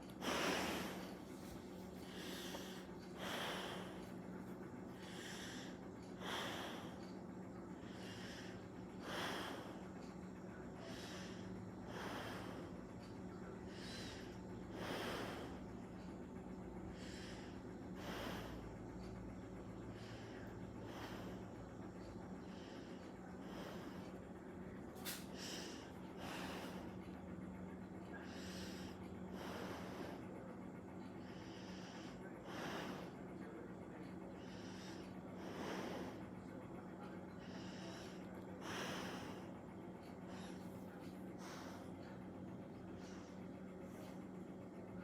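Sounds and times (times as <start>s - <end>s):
faint low hum: 0.0s - 45.0s
heavy breathing: 0.0s - 45.0s.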